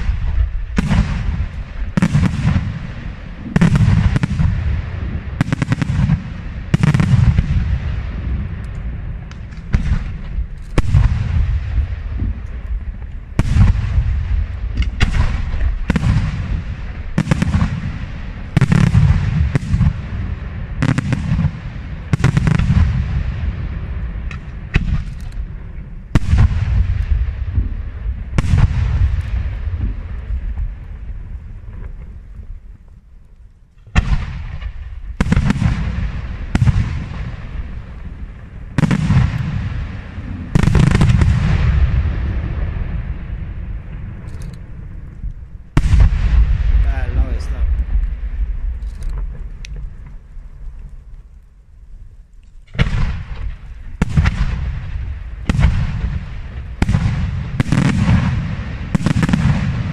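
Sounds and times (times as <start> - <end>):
fireworks bursting with rumble: 0.0 - 59.9.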